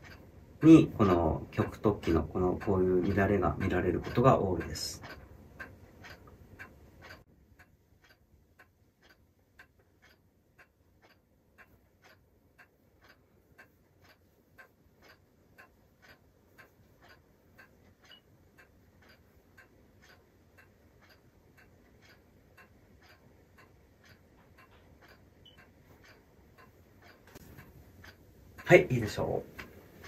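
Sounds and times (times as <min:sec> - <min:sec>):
faint steady ticking: 0:00.0 - 0:30.0.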